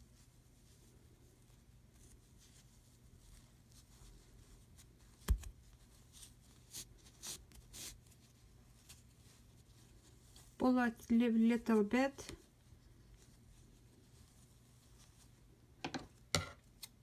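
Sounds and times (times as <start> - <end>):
yarn rustling and swishing: 0.0 - 15.6.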